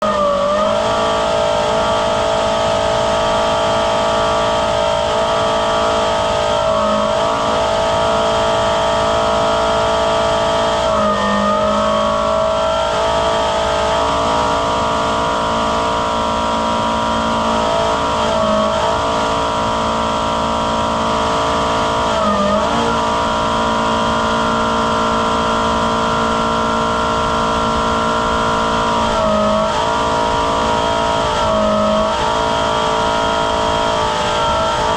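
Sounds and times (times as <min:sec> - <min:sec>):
turbine blower whine: 0:00.0 - 0:34.9.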